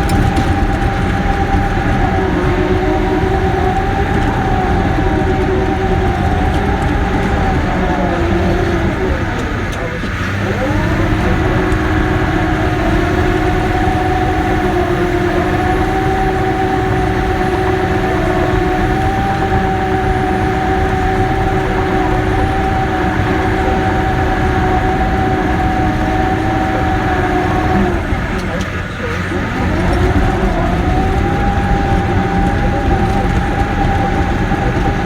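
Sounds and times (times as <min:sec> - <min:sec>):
bulldozer diesel rumble: 0:00.0 - 0:35.0
bulldozer whine: 0:00.0 - 0:35.0.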